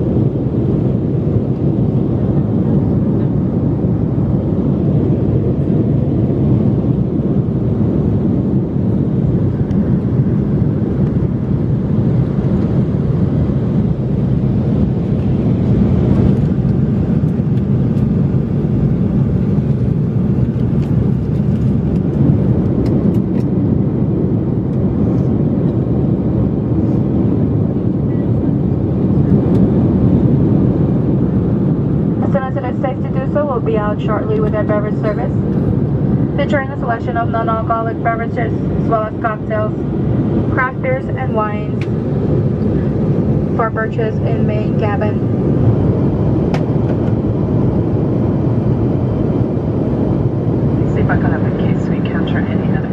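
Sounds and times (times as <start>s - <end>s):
airflow noise: 0.0s - 52.9s
jet engine rumble in cabin: 0.0s - 52.9s.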